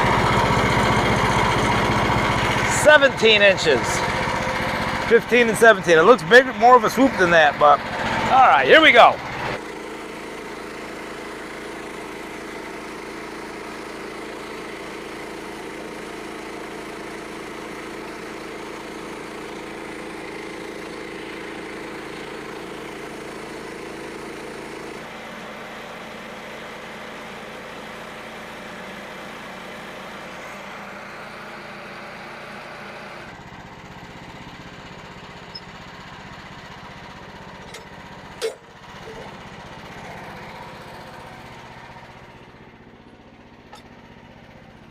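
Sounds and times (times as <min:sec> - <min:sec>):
small gasoline engine running: 0:00.0 - 0:44.9.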